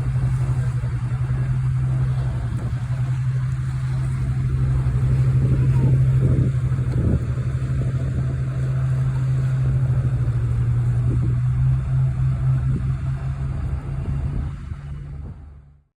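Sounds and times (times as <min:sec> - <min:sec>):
ship engine droning: 0:00.0 - 0:15.9.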